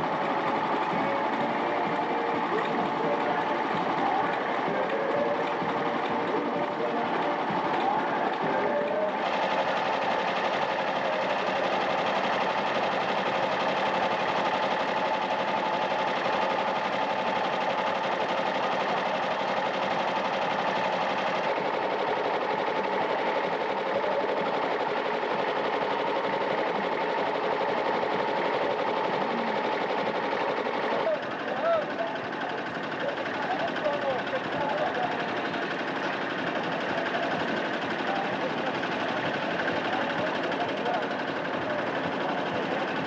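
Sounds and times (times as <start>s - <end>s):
machinery clattering: 0.0s - 43.0s
machinery whine: 0.0s - 43.0s.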